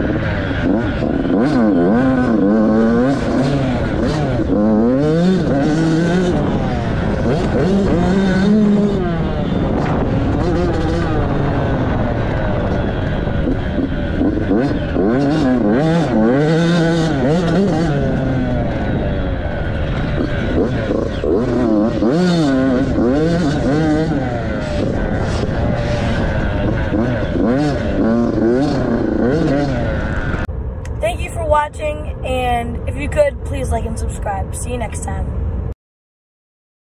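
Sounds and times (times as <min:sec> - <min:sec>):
dirt bike engine revving: 0:00.0 - 0:30.5.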